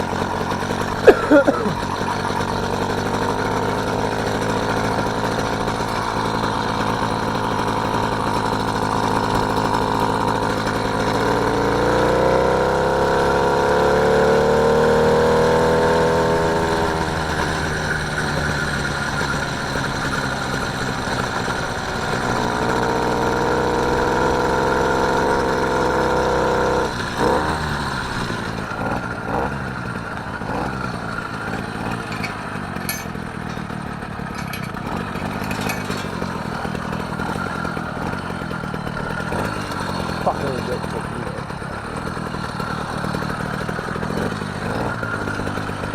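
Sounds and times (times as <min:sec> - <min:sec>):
motorised bike engine running: 0:00.0 - 0:45.9.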